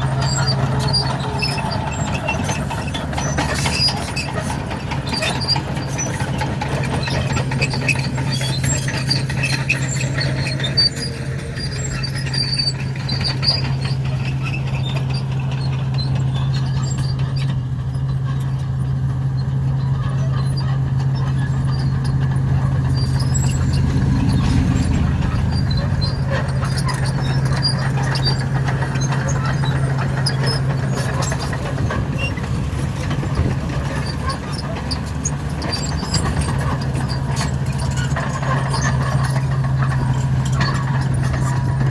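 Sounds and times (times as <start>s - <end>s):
bulldozer diesel engine running: 0.0s - 41.9s
clanks and crackles of breaking asphalt: 0.0s - 41.9s.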